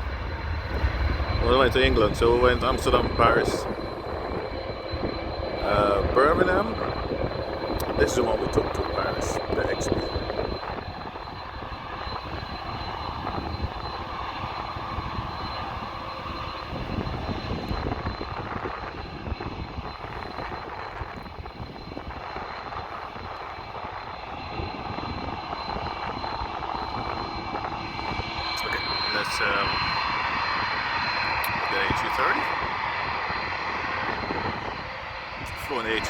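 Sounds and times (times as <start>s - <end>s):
distant jet engines running: 0.0s - 36.0s
high engine whine: 0.0s - 36.0s.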